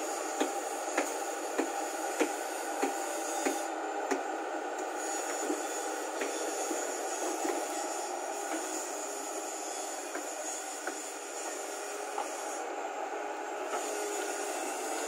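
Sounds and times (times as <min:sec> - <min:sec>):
hydraulics working: 0:00.0 - 0:15.0.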